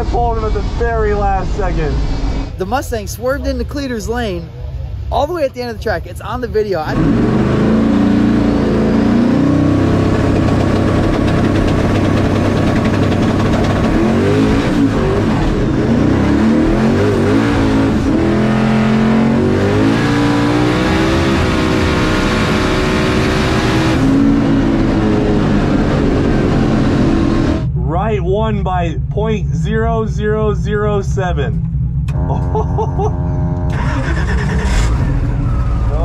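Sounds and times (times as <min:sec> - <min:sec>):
car engine from inside cabin: 0:06.8 - 0:36.0.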